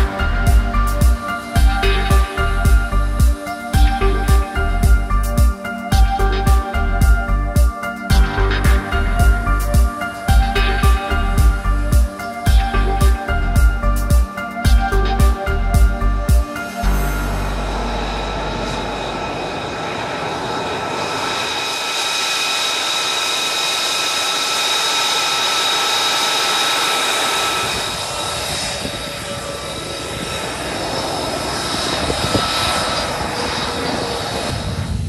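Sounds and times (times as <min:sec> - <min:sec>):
jet engine whining: 0:00.0 - 0:35.0.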